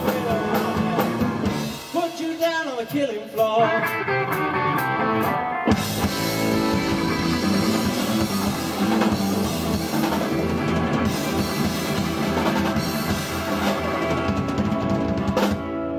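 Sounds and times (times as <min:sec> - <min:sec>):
drum kit with cymbals: 0:00.0 - 0:03.6, 0:05.7 - 0:15.9
electric guitar: 0:00.0 - 0:15.9.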